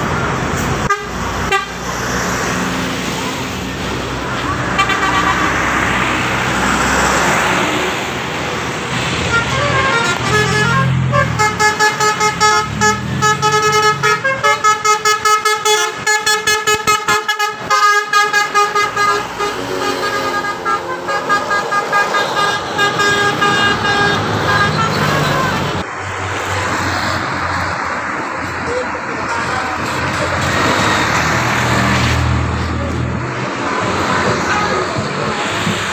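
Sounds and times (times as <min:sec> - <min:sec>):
bus engine and tyre noise: 0:00.0 - 0:35.9.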